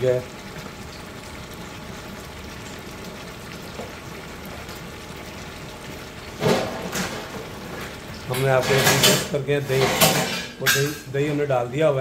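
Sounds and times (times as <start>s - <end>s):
pot sizzling and bubbling: 0.0s - 12.0s.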